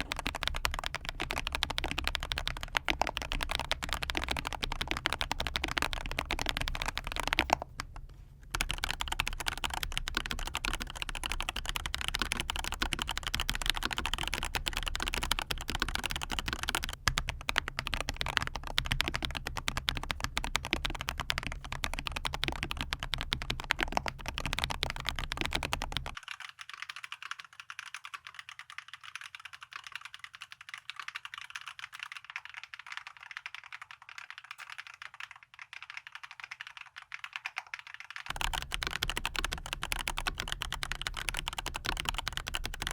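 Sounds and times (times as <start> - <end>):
fast mechanical keyboard typing: 0.0 - 42.9.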